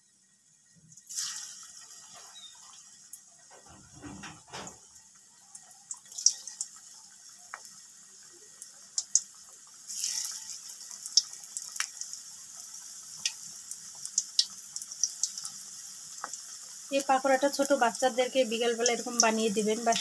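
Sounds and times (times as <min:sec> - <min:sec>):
deep-frying sizzle: 0:00.0 - 0:20.0
oil popping and crackling: 0:01.0 - 0:20.0.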